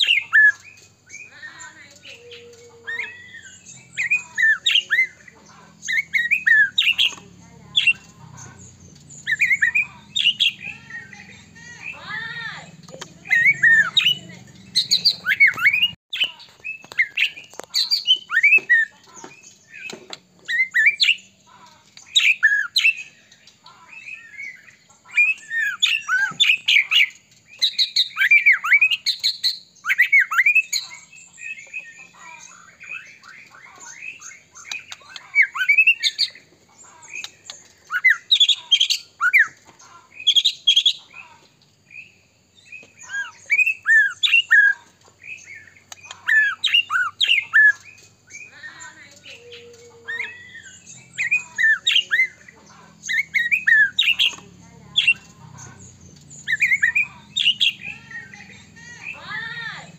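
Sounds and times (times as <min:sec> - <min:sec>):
bird singing rapid whistles: 0:02.9 - 0:08.1, 0:08.7 - 0:21.4, 0:24.0 - 0:36.4, 0:37.2 - 0:39.6, 0:42.0 - 0:49.4, 0:50.0 - 0:59.9.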